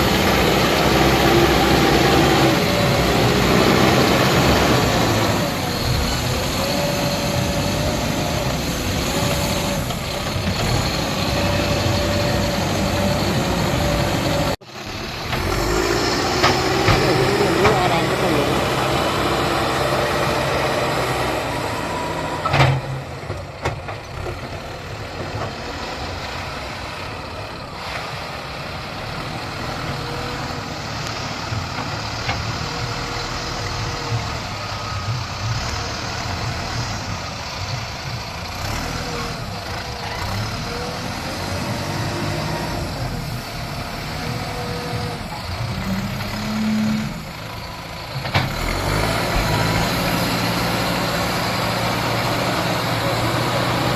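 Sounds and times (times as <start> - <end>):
heavy diesel machinery running: 0.0 - 53.9.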